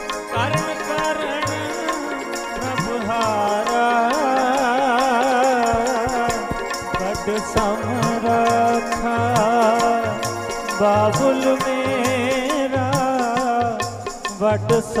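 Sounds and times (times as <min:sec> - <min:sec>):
harmonium: 0:00.0 - 0:15.0
person singing: 0:00.0 - 0:15.0.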